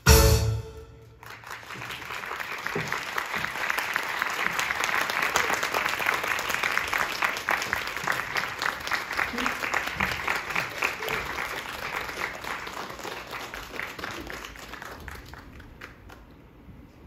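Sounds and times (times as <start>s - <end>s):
audience applauding: 1.1s - 16.6s.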